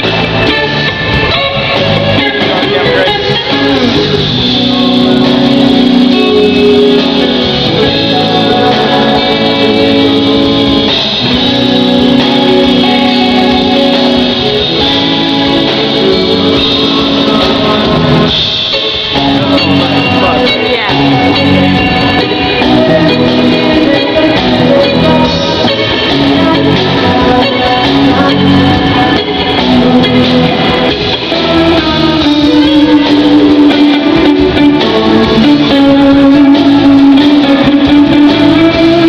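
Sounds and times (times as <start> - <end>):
bass guitar: 0.0 - 39.0
drums: 0.0 - 39.0
electric guitar: 0.0 - 39.0
person singing: 0.0 - 39.0.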